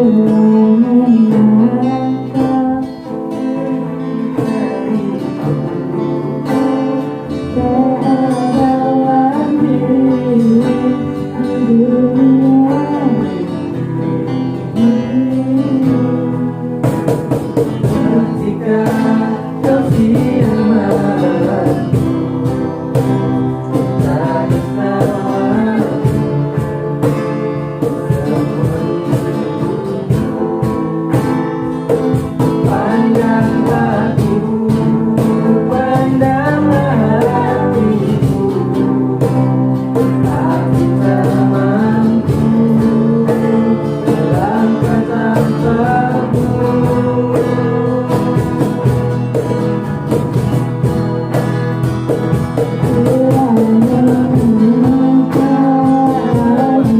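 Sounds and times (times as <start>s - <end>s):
person singing: 0.0s - 50.5s, 52.3s - 56.9s
acoustic guitar strumming: 0.0s - 56.9s.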